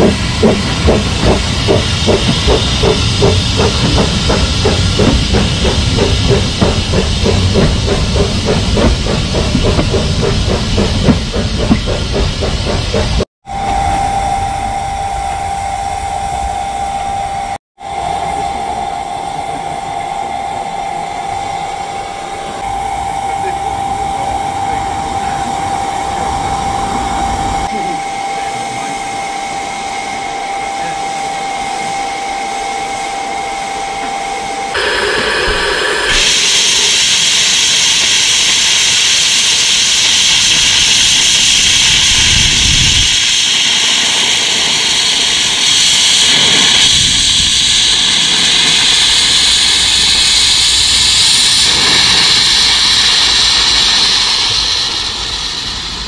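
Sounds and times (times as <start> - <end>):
loud rush of steam: 0.0 - 13.3, 21.0 - 56.0
steam locomotive hissing: 0.0 - 56.0.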